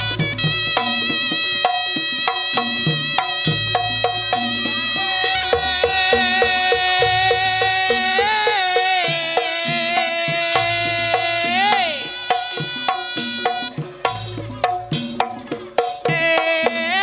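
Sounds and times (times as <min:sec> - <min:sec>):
drums and gongs beat: 0:00.0 - 0:17.0.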